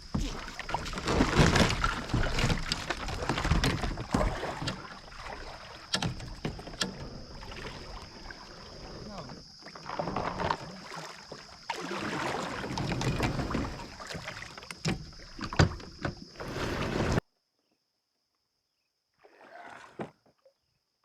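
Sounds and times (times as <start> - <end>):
water sloshing: 0.0 - 17.2.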